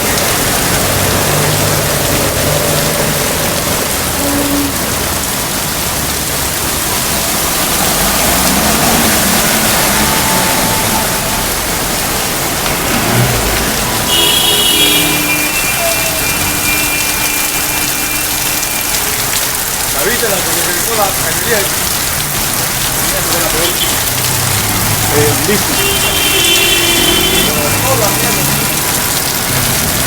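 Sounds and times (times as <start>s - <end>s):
water rushing on street: 0.0s - 30.0s.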